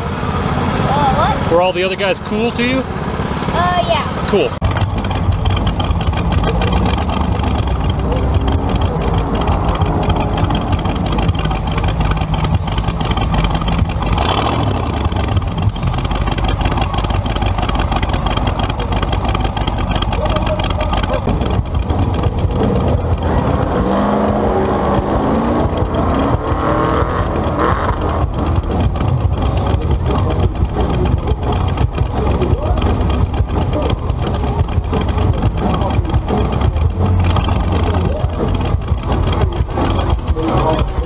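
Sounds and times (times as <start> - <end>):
car engine lumpy rumble: 0.0 - 41.0.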